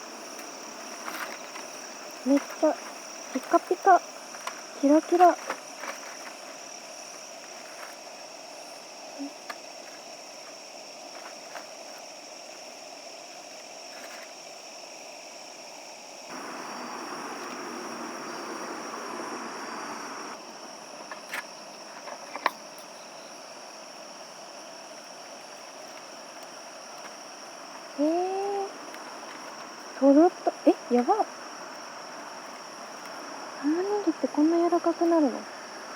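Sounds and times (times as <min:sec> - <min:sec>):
night insects trilling: 0:00.0 - 0:35.9.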